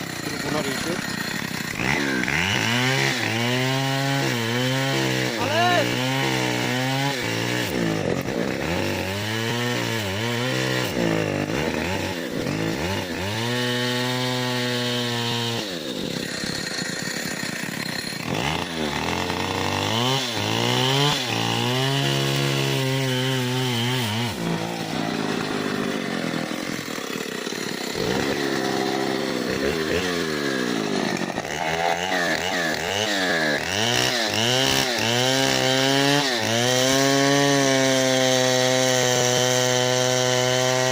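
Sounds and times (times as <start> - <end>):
chainsaw cutting tree: 0.0 - 40.9.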